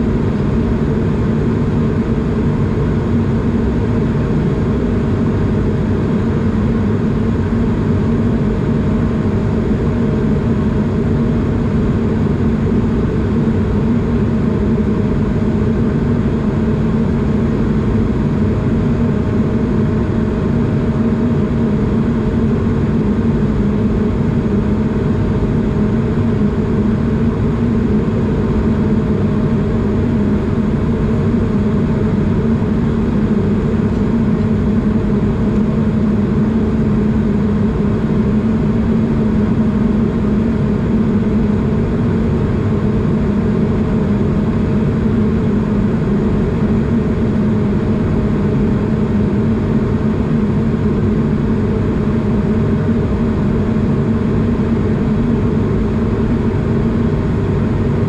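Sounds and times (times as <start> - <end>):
faint steady whine: 0.0 - 58.0
jet engines droning: 0.0 - 58.0.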